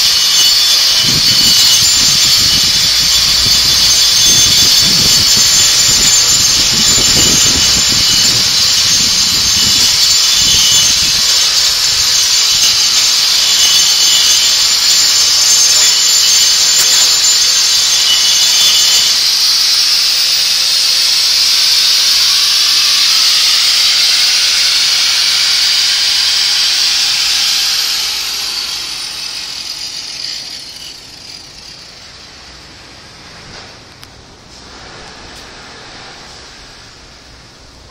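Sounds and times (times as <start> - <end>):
power tool hiss: 0.0 - 32.3
high whine: 0.0 - 37.9.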